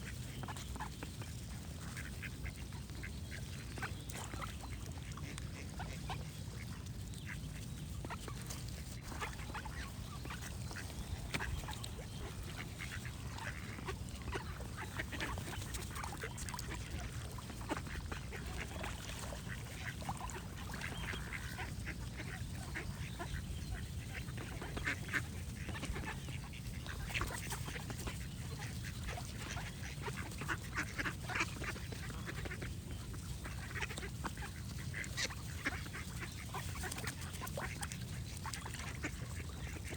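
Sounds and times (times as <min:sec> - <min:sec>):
birds singing: 0:00.0 - 0:39.9
ducks quacking: 0:00.0 - 0:39.9.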